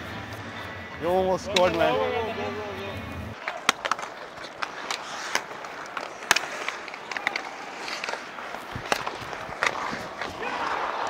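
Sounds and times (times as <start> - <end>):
skates scraping on ice: 0.0 - 11.0
sticks and puck clacking: 0.0 - 11.0.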